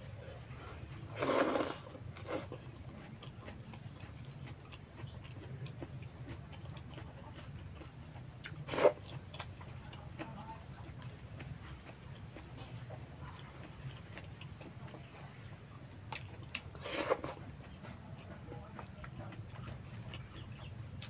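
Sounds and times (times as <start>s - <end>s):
chewing and mouth sounds: 0.2s - 21.0s.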